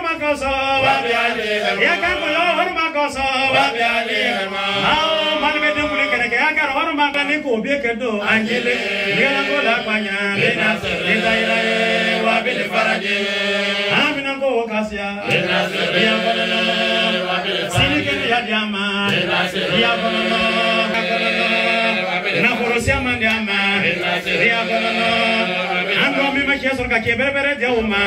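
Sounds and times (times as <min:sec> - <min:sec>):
men chanting melodically: 0:00.0 - 0:07.4, 0:08.1 - 0:28.0.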